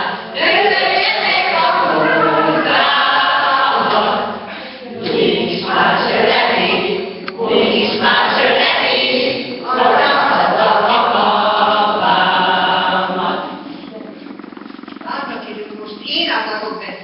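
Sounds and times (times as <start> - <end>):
women singing unaccompanied: 0.0 - 14.0.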